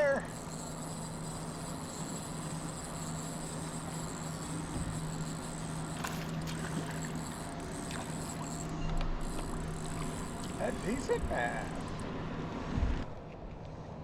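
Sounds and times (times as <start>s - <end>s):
boat engine low hum: 0.0s - 14.0s.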